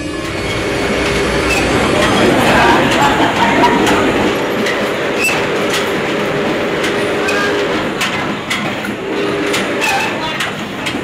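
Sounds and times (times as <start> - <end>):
train car rumbling on rails: 0.0 - 11.0
sharp clacks and rattles: 1.0 - 11.0.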